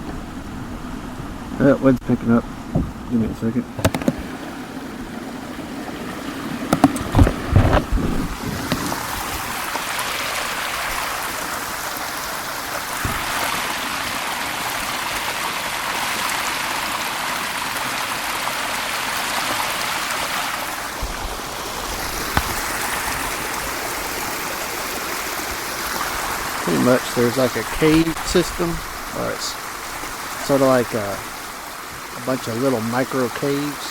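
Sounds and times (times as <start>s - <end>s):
waterfall splashing over rock: 3.8s - 33.9s.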